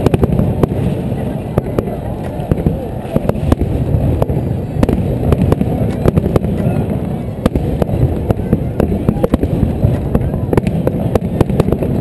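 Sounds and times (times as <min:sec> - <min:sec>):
continuous low rumble: 0:00.0 - 0:12.0
fireworks bangs and pops: 0:00.0 - 0:12.0.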